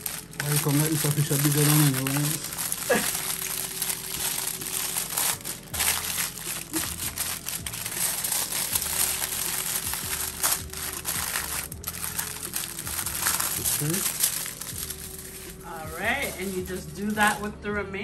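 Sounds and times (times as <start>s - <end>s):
aluminium foil crinkling: 0.0s - 17.6s
background music: 0.0s - 18.0s.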